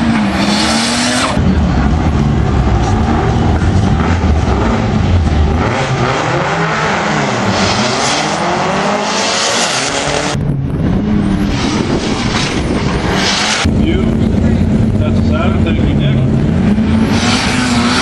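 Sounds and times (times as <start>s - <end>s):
car engine at full throttle passing: 0.0s - 18.0s
car engine running: 0.0s - 18.0s.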